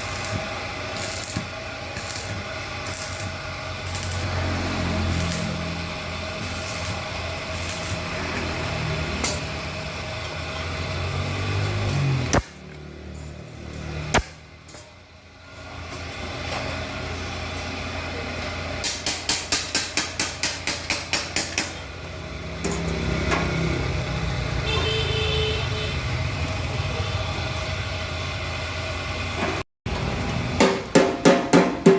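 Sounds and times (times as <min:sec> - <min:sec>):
workshop machine humming: 0:00.0 - 0:31.9.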